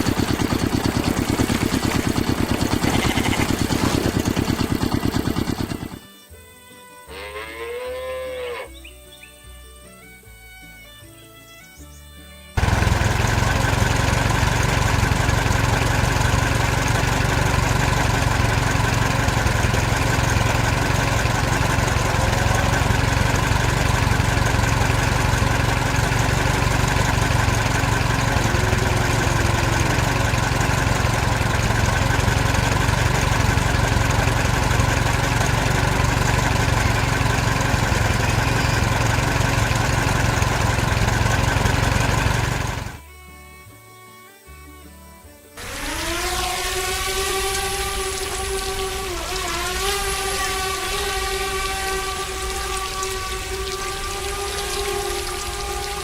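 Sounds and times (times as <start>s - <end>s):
engine running steadily: 0.0s - 6.2s, 12.6s - 43.1s, 45.6s - 56.0s.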